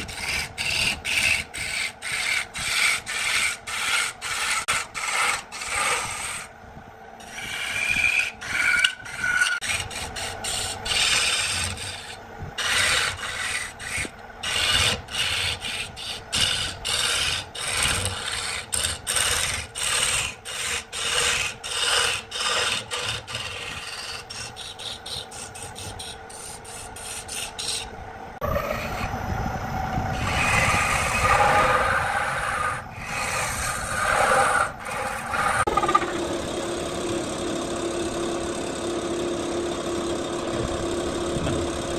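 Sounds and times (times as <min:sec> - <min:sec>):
gouge scraping wood on lathe: 0:00.0 - 0:06.5, 0:07.2 - 0:29.1, 0:30.1 - 0:40.6.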